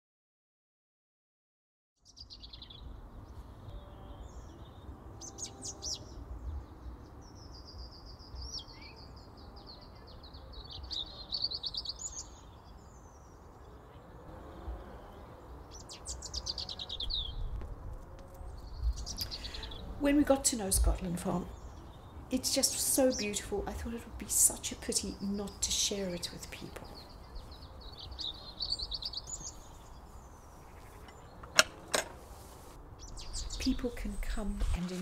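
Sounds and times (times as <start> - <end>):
songbirds singing: 2.0 - 35.0.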